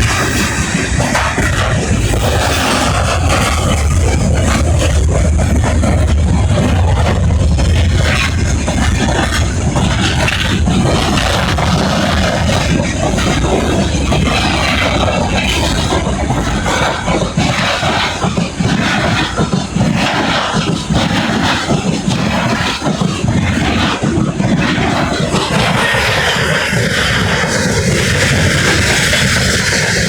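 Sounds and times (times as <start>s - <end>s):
freight train rumbling: 0.0s - 30.0s
rhythmic clatter: 0.0s - 30.0s.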